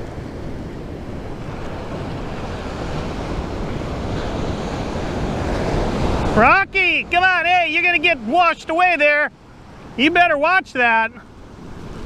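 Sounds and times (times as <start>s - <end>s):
wind buffeting microphone: 0.0s - 10.6s
ocean surf breaking: 0.0s - 12.0s.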